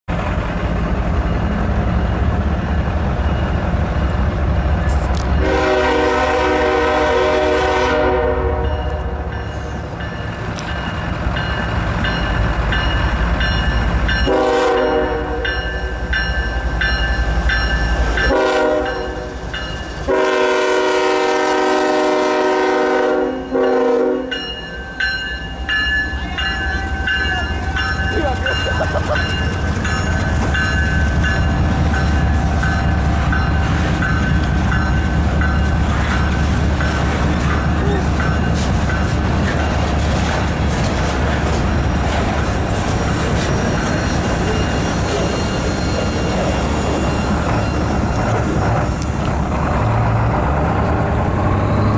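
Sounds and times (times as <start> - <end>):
train wheels clicking on rails: 0.1 - 6.7, 8.6 - 21.1, 24.2 - 51.9
diesel locomotive engine rumbling: 0.1 - 51.9.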